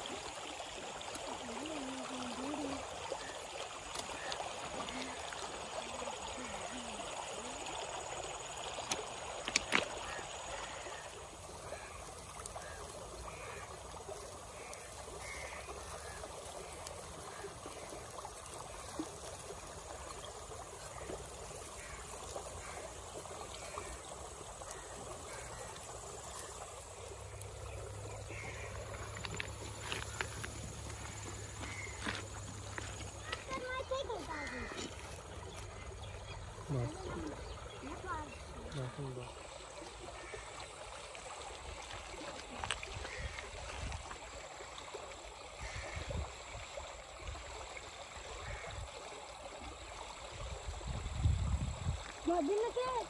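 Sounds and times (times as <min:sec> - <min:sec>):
stream water flowing: 0:00.0 - 0:53.0.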